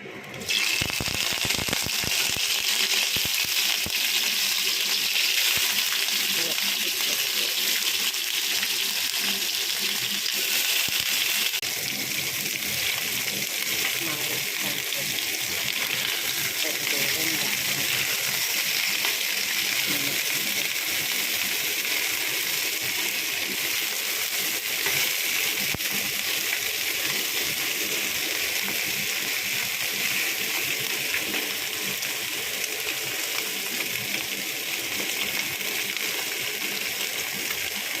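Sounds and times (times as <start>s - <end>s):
fish sizzling in hot oil: 0.4s - 38.0s.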